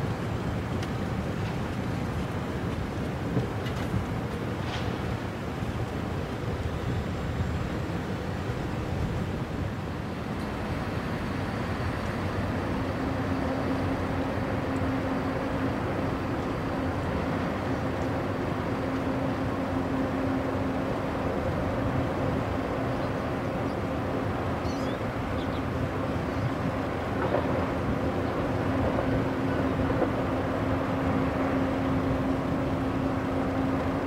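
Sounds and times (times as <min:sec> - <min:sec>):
train rumbling by: 0:00.0 - 0:34.0.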